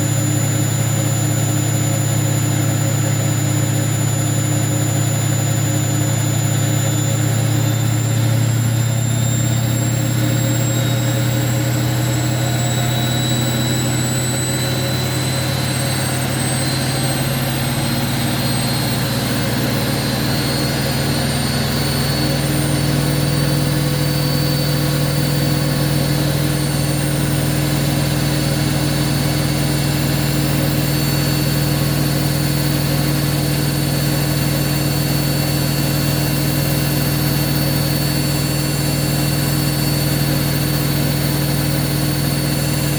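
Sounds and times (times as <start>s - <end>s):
washing machine motor whine: 0.0s - 42.9s.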